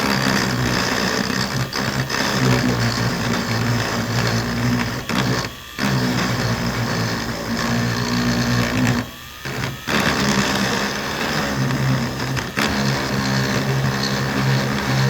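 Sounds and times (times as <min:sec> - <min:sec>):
rotary tool grinding plastic: 0:00.0 - 0:15.0.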